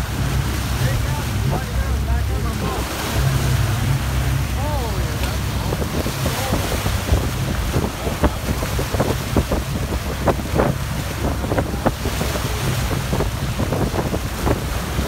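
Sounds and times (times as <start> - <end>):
boat motor rumbling: 0.0 - 15.0
water splashing against hull: 0.0 - 15.0
wind buffeting microphone: 0.0 - 15.0.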